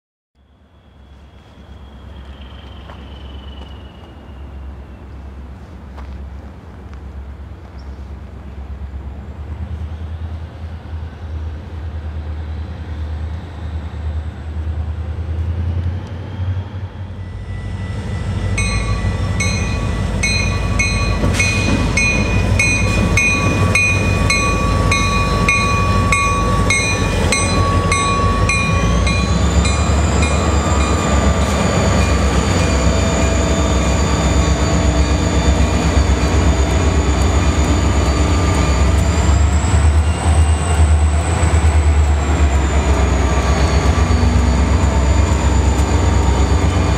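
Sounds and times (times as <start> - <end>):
diesel train rumble: 0.5 - 46.9.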